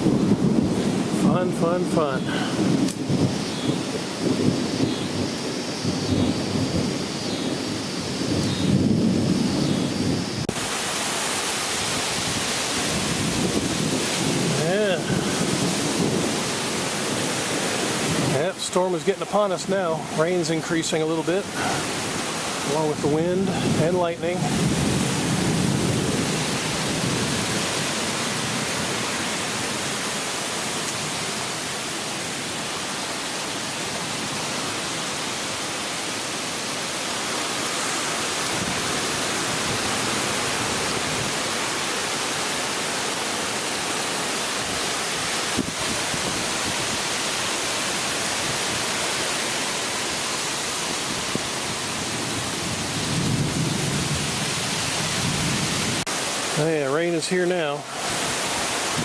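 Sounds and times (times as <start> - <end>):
rain hissing: 0.0 - 59.0
wind: 0.0 - 59.0.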